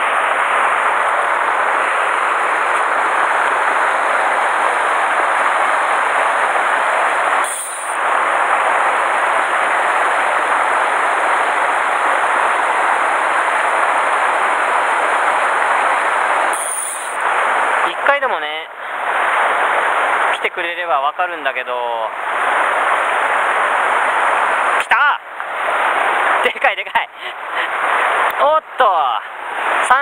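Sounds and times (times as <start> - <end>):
river rushing over rocks: 0.0 - 28.3, 29.2 - 30.0.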